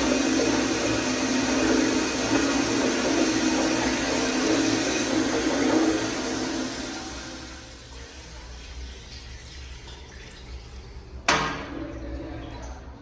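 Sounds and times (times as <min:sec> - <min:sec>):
toilet flushing: 0:00.0 - 0:13.0.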